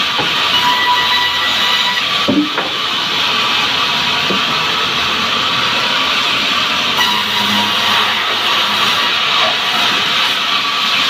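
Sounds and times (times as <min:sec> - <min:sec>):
band saw running: 0:00.0 - 0:11.0.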